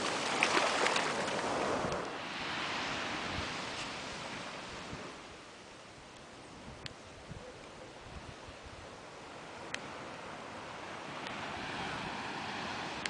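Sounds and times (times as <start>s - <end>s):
surf washing up beach: 0.0s - 6.7s, 9.0s - 13.0s.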